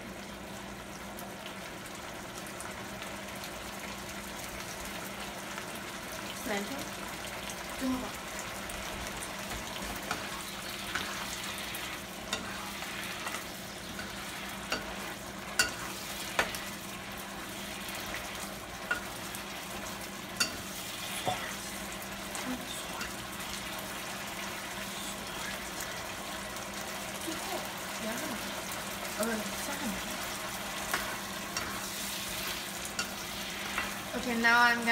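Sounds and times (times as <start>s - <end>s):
sauce sizzling in a skillet: 0.0s - 34.9s.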